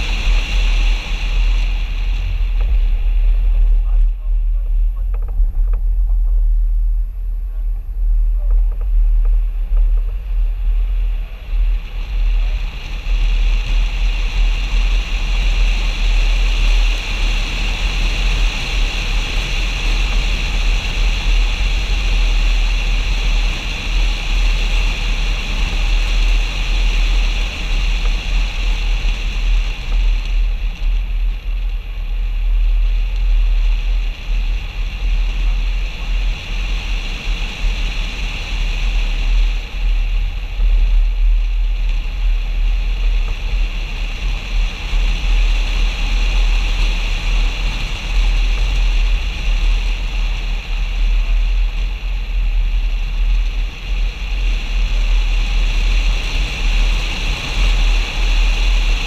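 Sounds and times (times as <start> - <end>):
road noise hiss: 0.0 - 59.0
wind buffeting microphone: 0.0 - 59.0.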